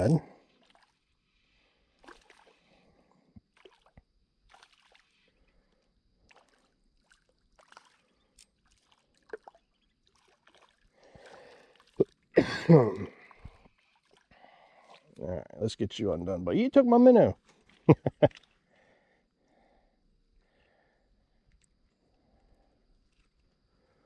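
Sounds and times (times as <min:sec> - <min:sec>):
creek water trickling: 0:00.0 - 0:24.0.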